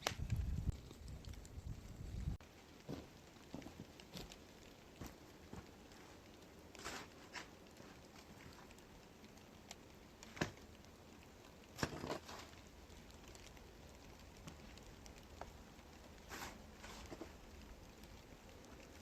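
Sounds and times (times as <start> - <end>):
low steady background: 0.0 - 19.0.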